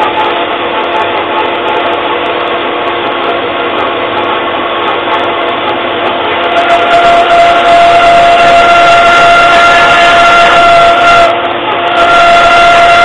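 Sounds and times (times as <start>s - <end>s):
dust extractor running: 0.0s - 13.0s
saw blade rubbing: 0.0s - 13.0s.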